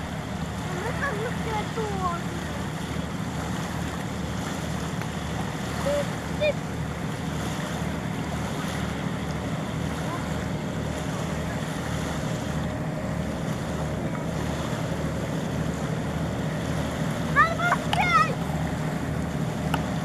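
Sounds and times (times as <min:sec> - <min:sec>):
distant boat engine drone: 0:00.0 - 0:20.0.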